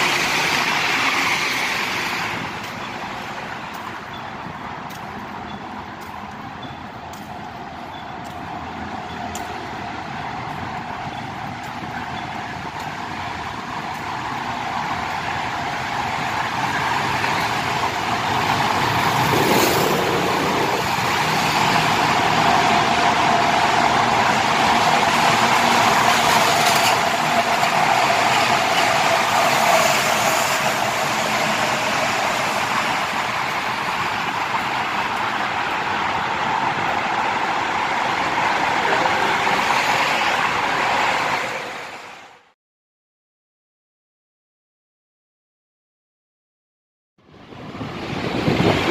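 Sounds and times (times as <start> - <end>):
traffic driving through a tunnel: 0.0 - 42.6, 47.2 - 48.9.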